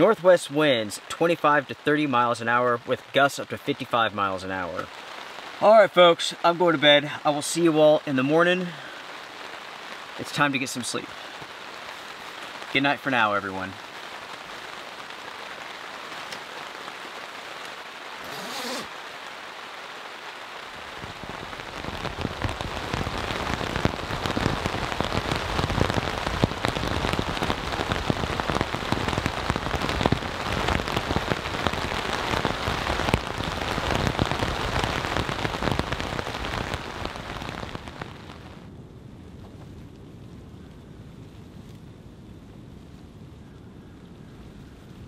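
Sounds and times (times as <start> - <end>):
rain on tent fabric: 0.0 - 45.0.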